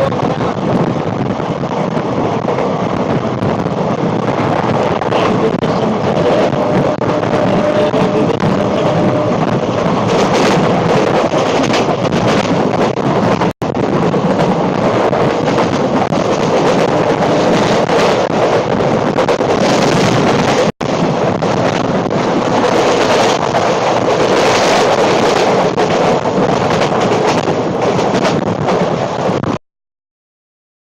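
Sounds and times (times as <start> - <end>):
train wheel and track noise: 0.0 - 29.6
wind buffeting microphone: 0.0 - 29.6.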